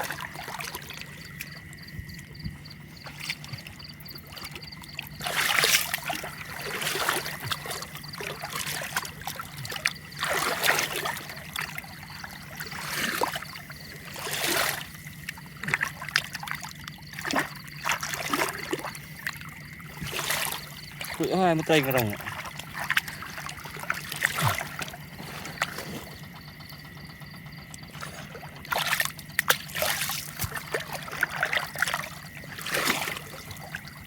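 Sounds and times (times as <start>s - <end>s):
steady low hum: 0.0s - 34.0s
water splashing and sloshing: 0.0s - 34.0s.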